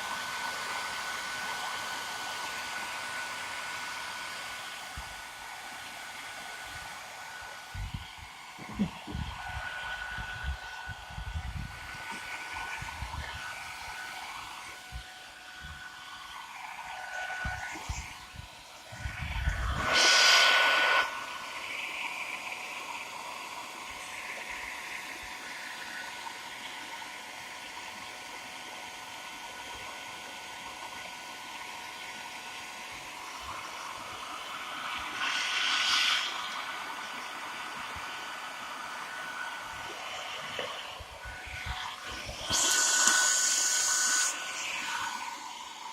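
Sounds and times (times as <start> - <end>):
hairdryer blowing with whine: 0.0 - 45.9.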